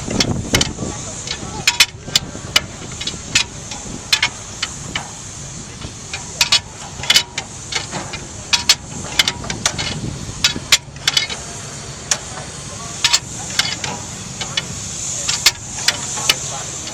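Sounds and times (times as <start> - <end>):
sharp exhaust cracks: 0.0 - 16.9
steady hiss: 0.0 - 16.9
tractor engine firing unevenly: 0.0 - 16.9.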